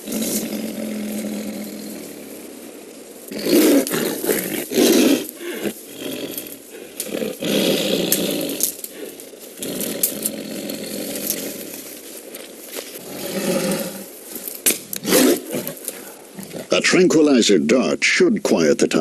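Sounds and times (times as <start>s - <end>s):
tiger roaring: 0.0s - 16.9s.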